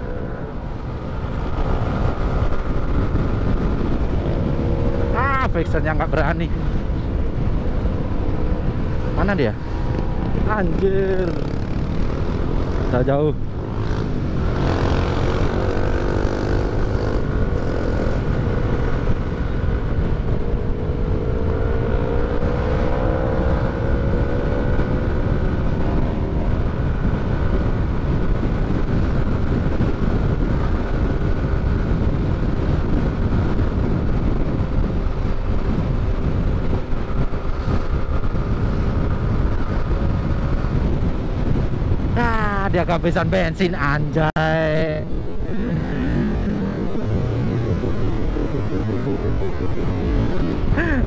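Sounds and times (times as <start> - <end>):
wind rumble on microphone: 0.0 - 51.0.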